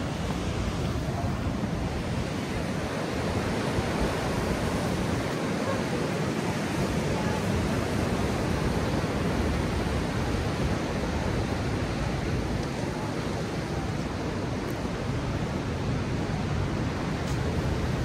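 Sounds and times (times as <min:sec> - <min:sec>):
strong wind: 0:00.0 - 0:18.0
waves breaking: 0:00.0 - 0:18.0.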